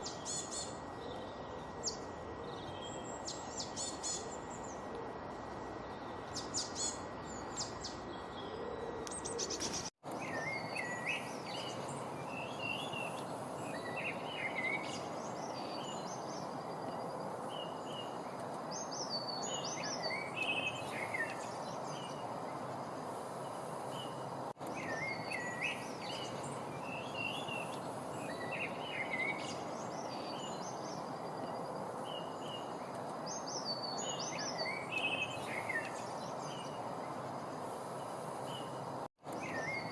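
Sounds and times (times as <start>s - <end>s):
background hiss: 0.0s - 39.9s
songbirds singing: 0.0s - 39.9s.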